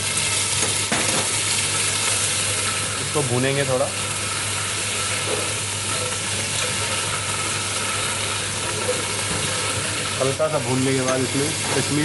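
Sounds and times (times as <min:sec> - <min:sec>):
paste sizzling in a pan: 0:00.0 - 0:12.0.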